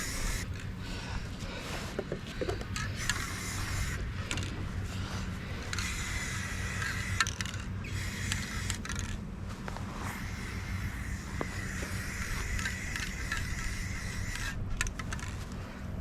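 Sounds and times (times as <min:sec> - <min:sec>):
spray paint hissing: 0:00.0 - 0:00.6, 0:02.0 - 0:09.1, 0:09.8 - 0:15.3
steady low hum: 0:00.0 - 0:16.0.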